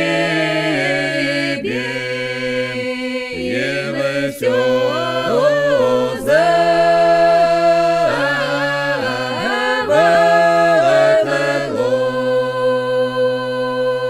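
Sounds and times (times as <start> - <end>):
voices singing in harmony: 0.0 - 14.0.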